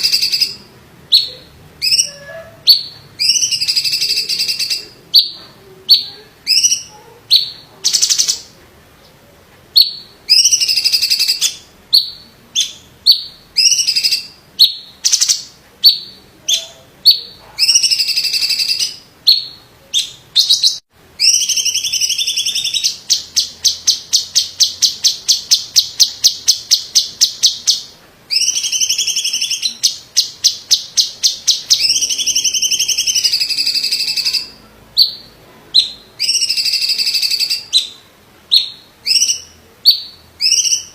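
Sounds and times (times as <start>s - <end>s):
bird singing: 0.0s - 8.5s, 9.7s - 40.9s.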